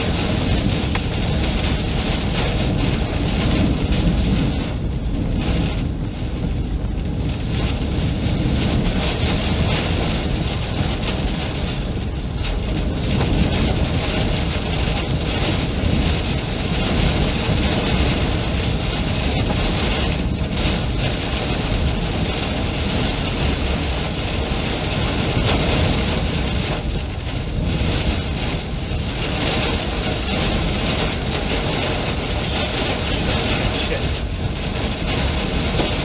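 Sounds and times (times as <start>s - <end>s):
strong storm wind roaring: 0.0s - 36.0s
wind buffeting microphone: 0.0s - 36.0s.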